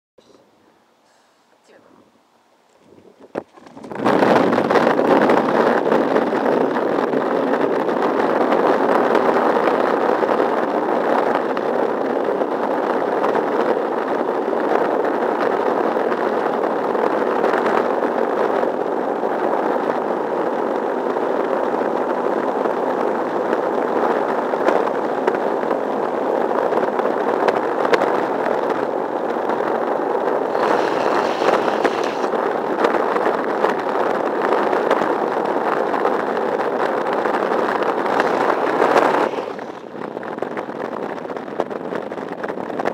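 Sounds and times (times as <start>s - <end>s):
longboard wheels rolling on asphalt: 2.6s - 42.9s.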